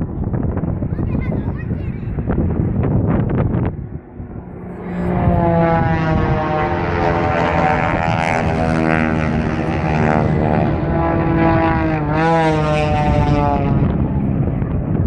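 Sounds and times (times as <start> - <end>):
propeller plane engine droning overhead: 0.0 - 15.0.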